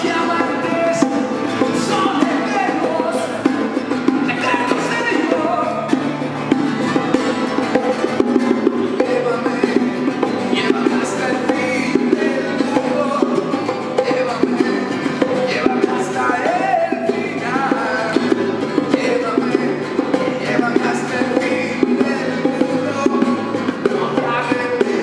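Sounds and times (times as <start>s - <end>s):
person singing: 0.0s - 3.6s, 4.2s - 6.0s, 8.4s - 25.0s
acoustic guitars strummed: 0.0s - 25.0s
bongos played by hand: 0.0s - 25.0s.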